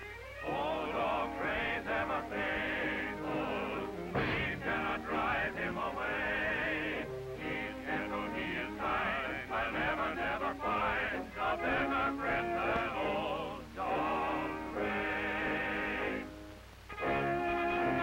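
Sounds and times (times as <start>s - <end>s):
sustained music notes: 0.0s - 18.0s.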